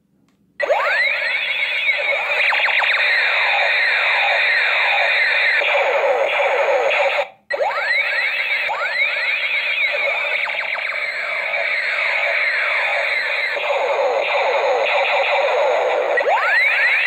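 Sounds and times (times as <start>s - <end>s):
toy laser gun sound effect: 0.6s - 17.0s.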